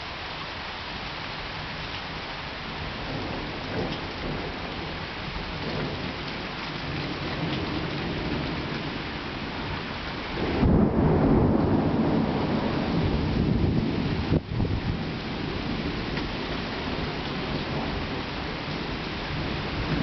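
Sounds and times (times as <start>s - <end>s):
steady rain falling: 0.0s - 20.0s
thunder rumbling: 2.9s - 20.0s.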